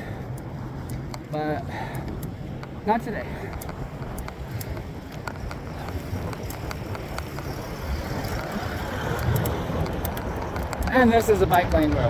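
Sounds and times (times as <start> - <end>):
bicycle clicks and rattles: 0.0 - 12.0
wind and tyre rumble: 0.0 - 12.0.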